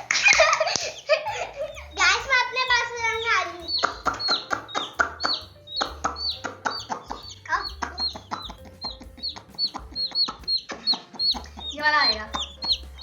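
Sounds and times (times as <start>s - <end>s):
background music: 0.0s - 13.0s
chicks peeping: 0.0s - 13.0s.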